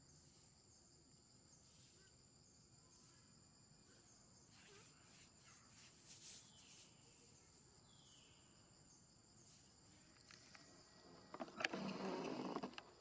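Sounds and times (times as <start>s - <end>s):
faint chirps: 0.0s - 12.5s
insect droning: 0.0s - 13.0s.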